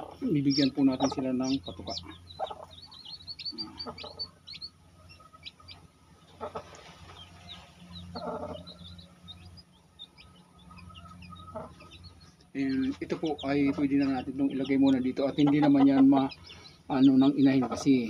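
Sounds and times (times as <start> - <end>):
chicks peeping: 0.0 - 18.0
steady low hum: 0.0 - 18.0.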